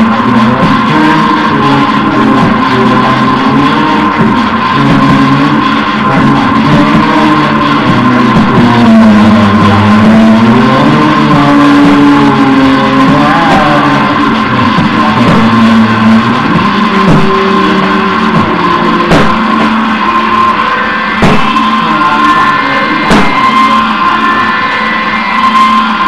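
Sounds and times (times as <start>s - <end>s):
droning noise music: 0.0s - 26.0s.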